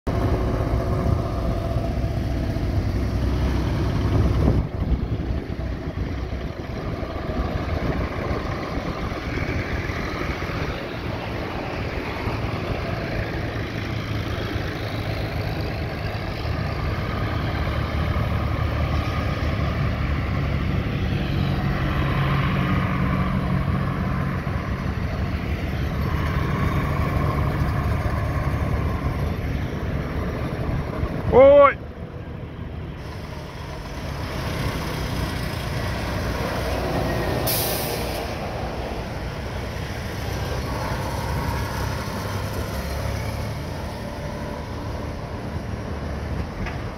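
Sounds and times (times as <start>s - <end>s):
tractor engines driving past: 0.1s - 46.9s.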